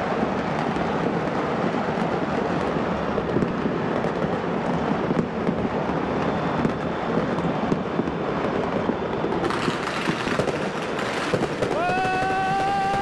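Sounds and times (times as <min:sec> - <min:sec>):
fireworks crackle and rumble: 0:00.0 - 0:13.0.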